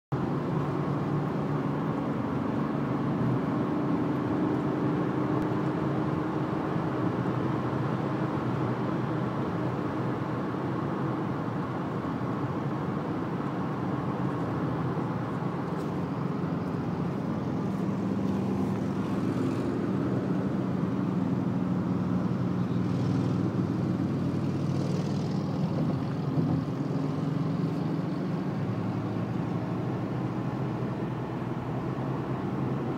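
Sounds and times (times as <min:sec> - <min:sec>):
car road and engine noise: 0:00.1 - 0:32.9.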